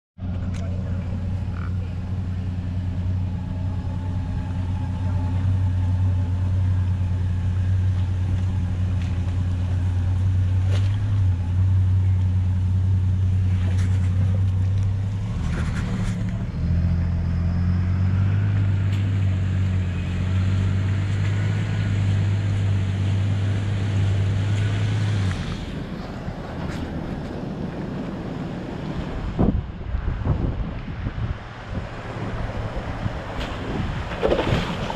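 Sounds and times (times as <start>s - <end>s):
vehicle engine droning: 0.2s - 34.9s.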